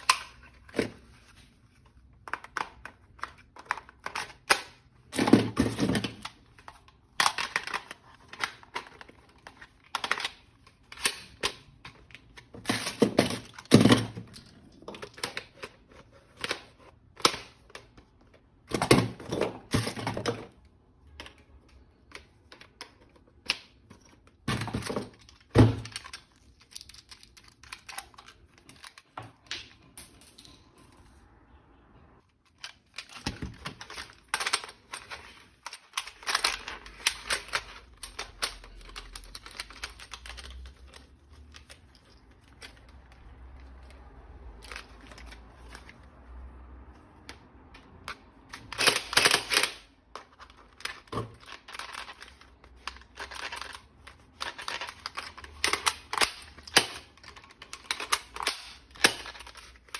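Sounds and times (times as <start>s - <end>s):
handling plastic toy parts: 0.0s - 31.6s, 32.2s - 59.9s.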